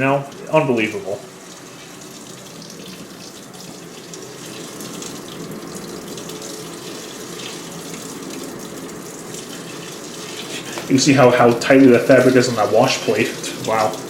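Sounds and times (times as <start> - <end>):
water pouring into washer tub: 0.0 - 14.0.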